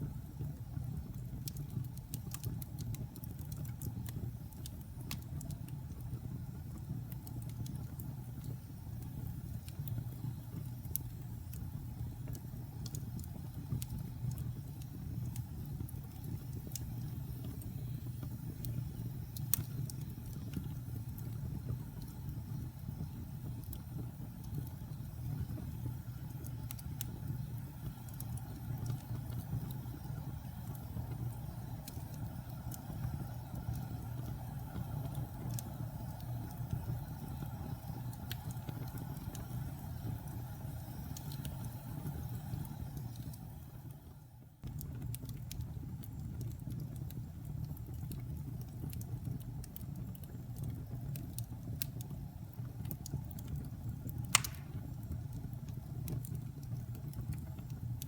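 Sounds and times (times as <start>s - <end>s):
fire crackles and pops: 0.0s - 58.0s
fireplace flames rumbling: 0.0s - 58.0s.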